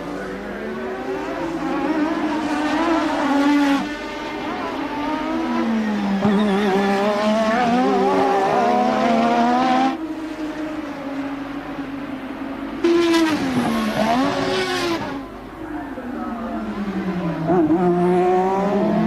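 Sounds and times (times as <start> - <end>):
racing car engine revving: 0.2 - 12.0, 12.6 - 15.4, 16.3 - 19.0.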